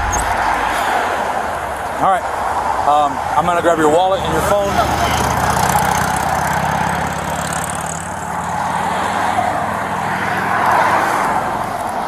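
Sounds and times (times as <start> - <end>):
traffic passing on road: 0.0 - 12.0
vehicle passing: 0.0 - 12.0.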